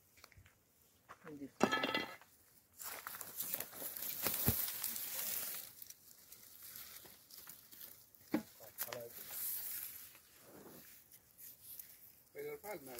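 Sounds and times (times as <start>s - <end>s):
dry grass rustling and crackling: 2.5s - 12.9s.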